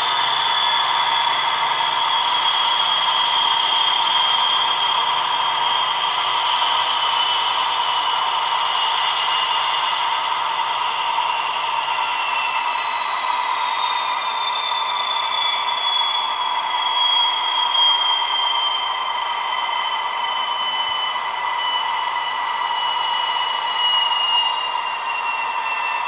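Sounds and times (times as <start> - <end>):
diesel locomotive engine whine: 0.0 - 26.0.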